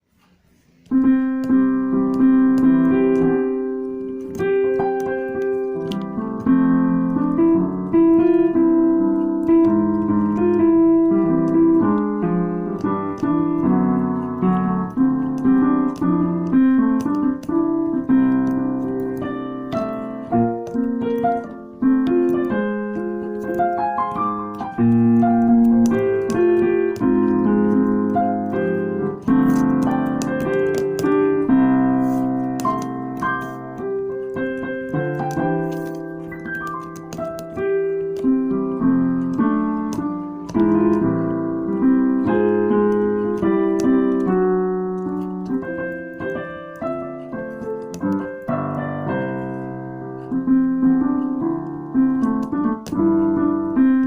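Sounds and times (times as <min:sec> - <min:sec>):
piano melody over chords: 0:00.8 - 0:54.0.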